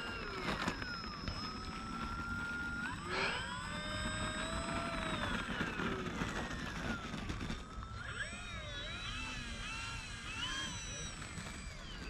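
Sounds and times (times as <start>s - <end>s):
model plane motor whining: 0.0s - 12.0s.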